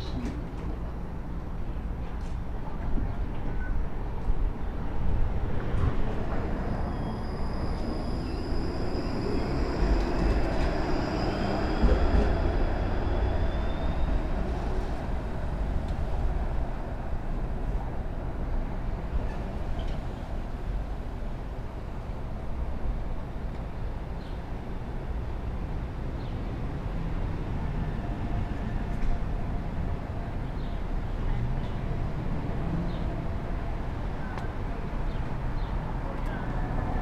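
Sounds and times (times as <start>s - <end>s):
streetcar wheels and motors rumbling: 0.0s - 37.0s.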